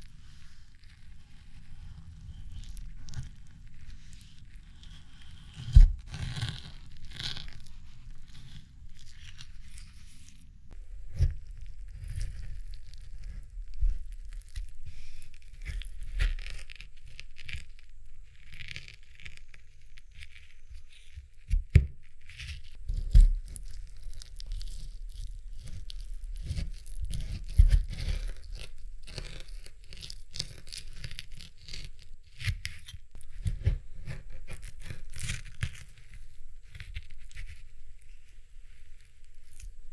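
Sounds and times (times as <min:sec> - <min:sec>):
jelly tearing and scraping: 0:00.0 - 0:39.9.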